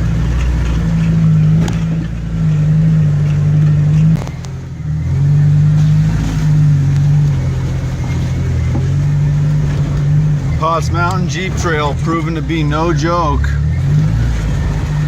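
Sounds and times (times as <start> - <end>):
engine working at low revs: 0.0 - 15.0.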